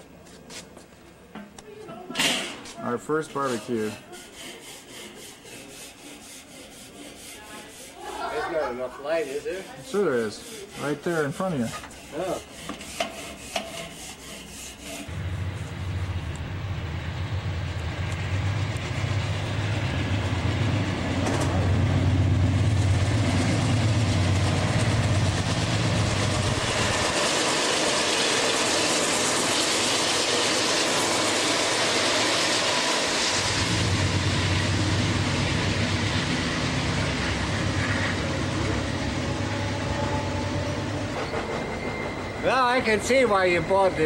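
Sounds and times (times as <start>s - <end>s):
train rumbling: 1.9s - 44.0s
wheels rushing on rails: 3.0s - 44.0s.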